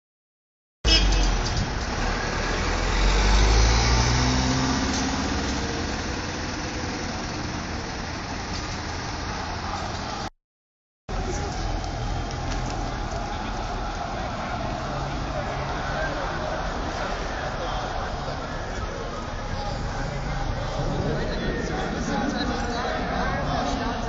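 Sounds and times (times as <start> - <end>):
vans driving past: 0.9 - 10.3, 11.1 - 24.0.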